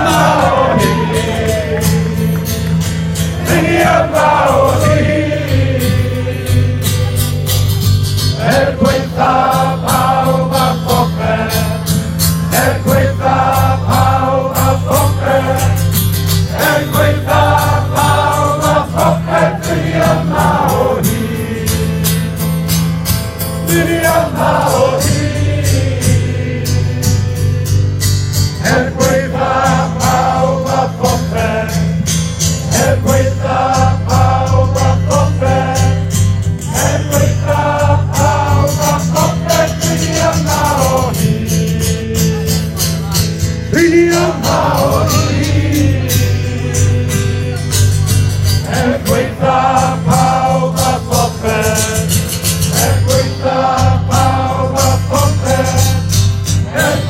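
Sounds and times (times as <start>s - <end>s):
crowd singing along: 0.0s - 57.0s
live song through a pa: 0.0s - 57.0s.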